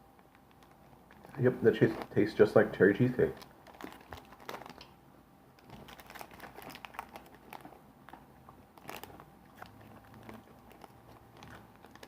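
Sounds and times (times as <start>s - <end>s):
person chewing crunchy candy: 0.4s - 2.2s, 3.2s - 4.9s, 5.6s - 12.0s.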